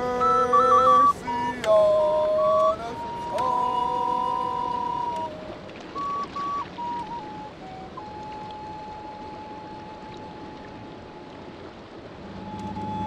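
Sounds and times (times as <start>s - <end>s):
faint background hiss: 0.0s - 13.0s
wooden flute playing: 0.0s - 13.0s.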